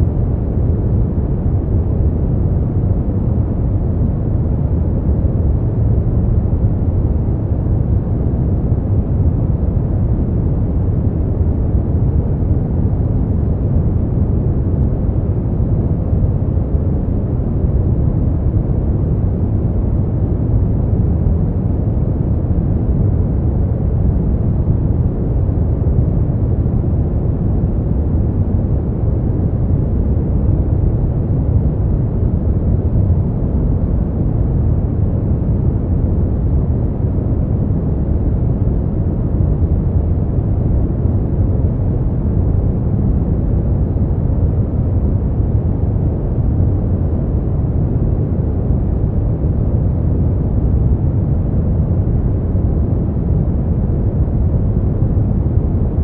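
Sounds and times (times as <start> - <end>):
deep rumbling noise: 0.0 - 56.0.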